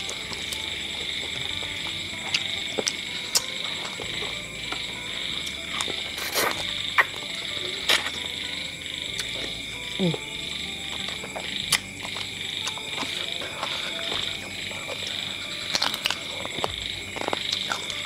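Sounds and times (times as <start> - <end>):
wet chewing and sucking: 0.0 - 8.4, 9.0 - 10.3, 10.9 - 18.0.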